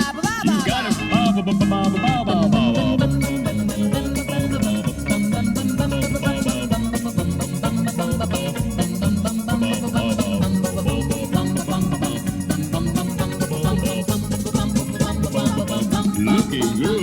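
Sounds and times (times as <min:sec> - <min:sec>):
organ-like keyboard: 0:00.0 - 0:17.0
person singing: 0:00.0 - 0:17.0
rock and roll band music: 0:00.0 - 0:17.0.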